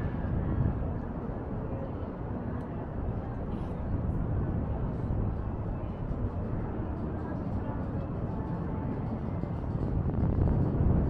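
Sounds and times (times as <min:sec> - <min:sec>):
murmur of distant voices: 0:00.0 - 0:11.0.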